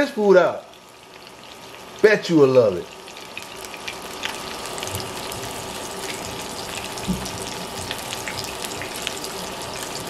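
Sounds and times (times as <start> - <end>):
fish sizzling in a frying pan: 0.0 - 10.0.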